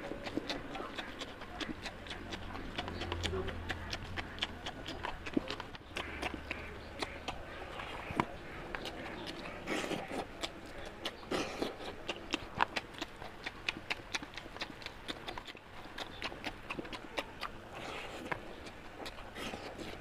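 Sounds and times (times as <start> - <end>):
chewing and lip-smacking: 0.0 - 20.0.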